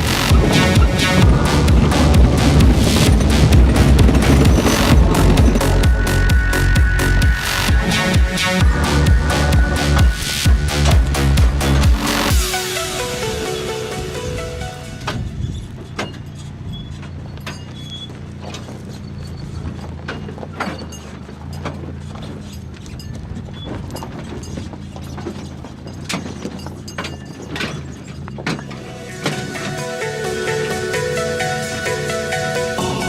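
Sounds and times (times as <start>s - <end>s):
vehicle knocks and rattles: 0.0s - 12.4s, 15.0s - 29.6s
vehicle engine drone: 0.0s - 33.0s.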